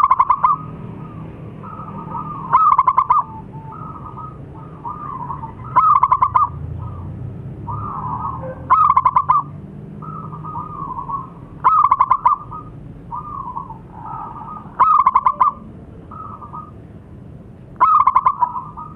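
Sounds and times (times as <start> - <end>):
dove cooing: 0.0 - 16.8, 17.8 - 18.9.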